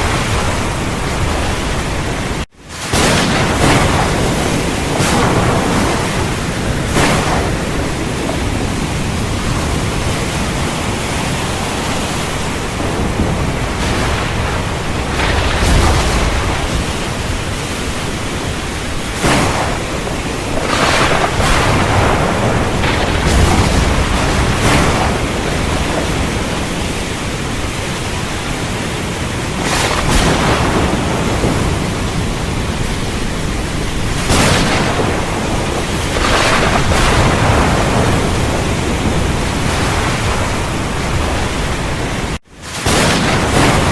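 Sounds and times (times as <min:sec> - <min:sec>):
heavy rain pouring: 0:00.0 - 0:43.9
low thunder rumbling: 0:00.0 - 0:43.9.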